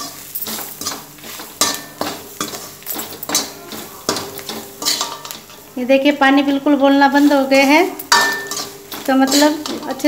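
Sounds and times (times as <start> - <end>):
metal spatula scraping pan: 0.0 - 5.8, 6.9 - 10.0
faint sizzle: 0.0 - 10.0.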